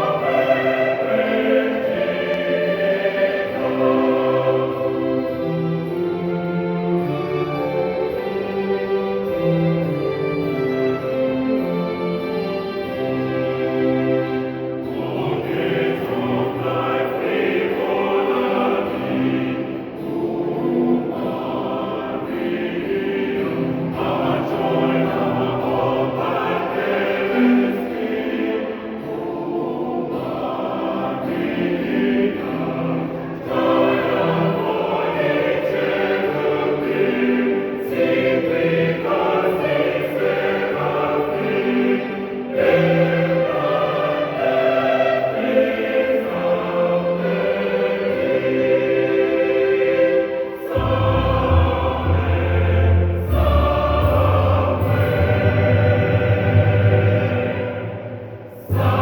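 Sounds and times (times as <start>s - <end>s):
mixed choir singing a hymn: 0.0s - 59.0s.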